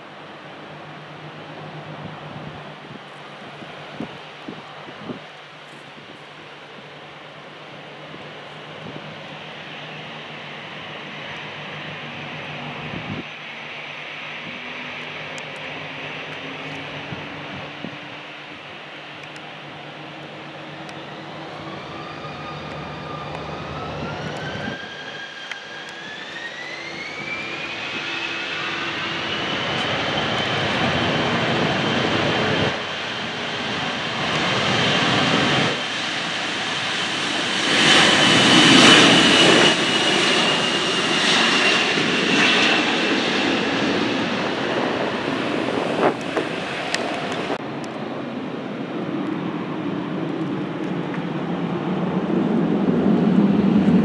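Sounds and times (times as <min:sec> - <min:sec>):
jet engines whining and roaring: 0:00.0 - 0:54.0.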